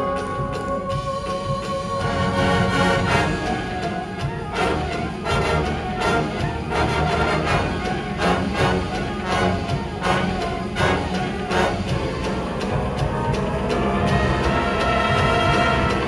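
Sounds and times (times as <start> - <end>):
brass band playing: 0.0 - 16.0
sharp percussion hits: 0.0 - 16.0.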